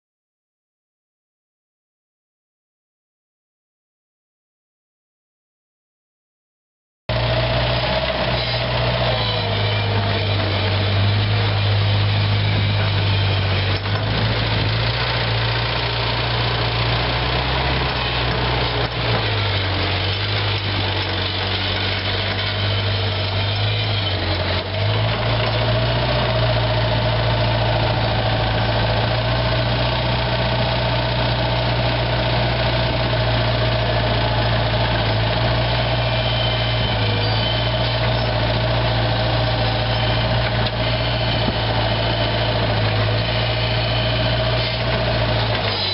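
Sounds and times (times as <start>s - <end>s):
diesel engine idling: 7.1s - 45.9s.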